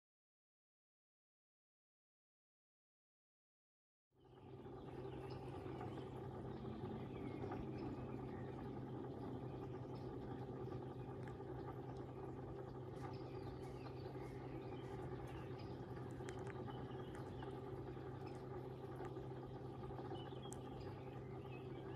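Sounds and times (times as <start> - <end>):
faint bird chirps: 4.2 - 21.9
pond pump humming: 4.2 - 21.9.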